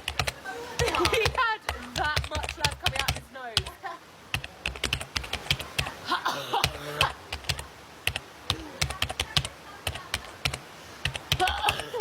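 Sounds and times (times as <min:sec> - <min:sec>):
rapid sharp clicks: 0:00.0 - 0:03.7, 0:04.3 - 0:05.9, 0:06.6 - 0:11.9.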